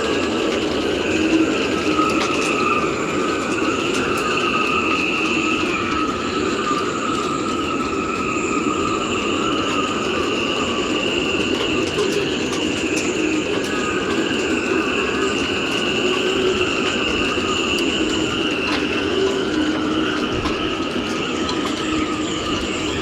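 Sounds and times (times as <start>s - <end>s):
wind howling through rigging: 0.0s - 23.0s.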